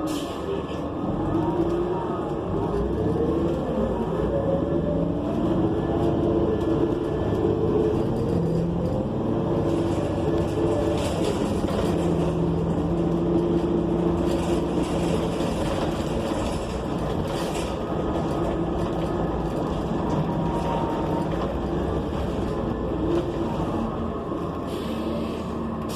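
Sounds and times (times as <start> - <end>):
bus engine drone: 0.0 - 25.9
road noise: 0.0 - 25.9.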